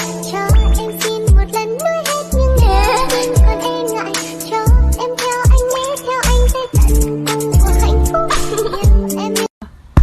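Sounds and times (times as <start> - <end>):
upbeat music with kick-drum beat: 0.0 - 8.2, 8.8 - 9.4.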